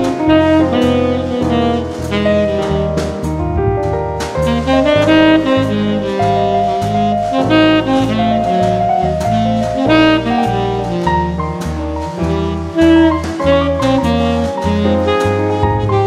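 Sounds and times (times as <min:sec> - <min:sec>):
saxophone-led jazz tune: 0:00.0 - 0:16.0
walking bass line: 0:00.0 - 0:16.0.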